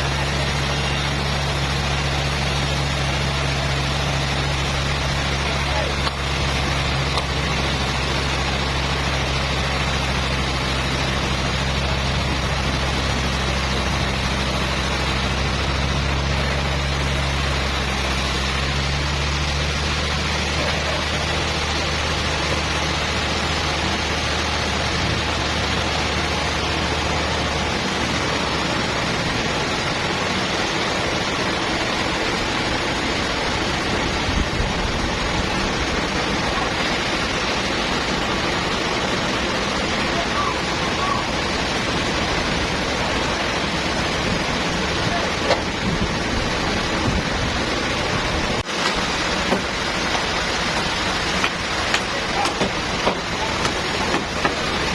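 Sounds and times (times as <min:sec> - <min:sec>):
low engine hum: 0:00.0 - 0:54.9
sawmill rushing noise: 0:00.0 - 0:54.9.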